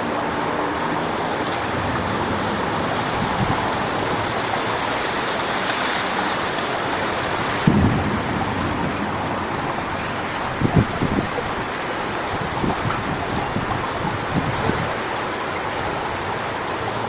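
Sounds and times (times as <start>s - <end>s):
wind buffeting microphone: 0.0s - 17.0s
wind rushing through palm fronds: 0.0s - 17.0s.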